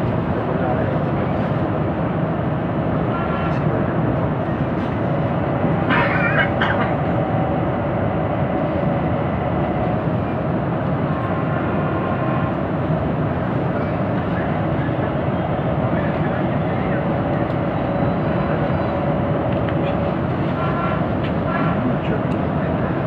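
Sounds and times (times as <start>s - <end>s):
train running inside carriage: 0.0s - 23.0s.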